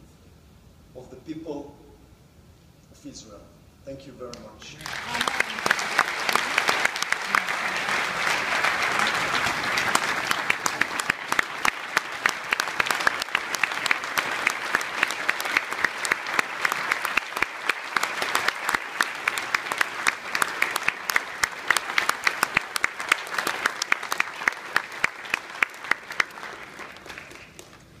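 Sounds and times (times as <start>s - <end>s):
audience applauding: 4.7s - 28.0s.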